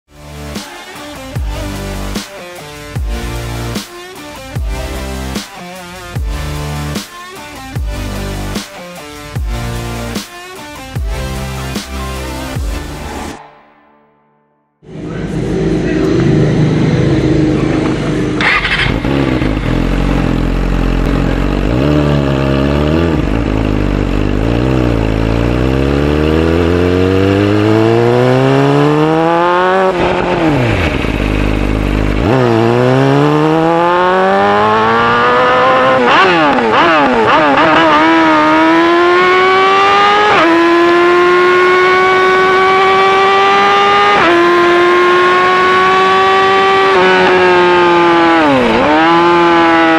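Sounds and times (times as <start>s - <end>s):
motorcycle engine revving: 0.3s - 13.9s, 14.8s - 49.9s.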